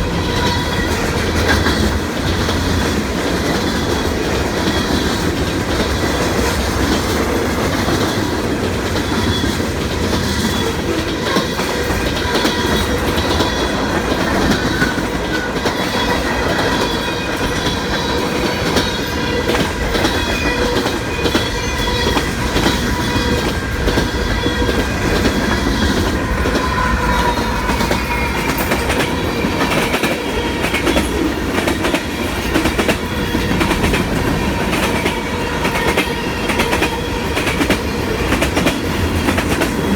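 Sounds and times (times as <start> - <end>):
train rumble: 0.0 - 39.9
train wheels clacking on rails: 0.0 - 39.9.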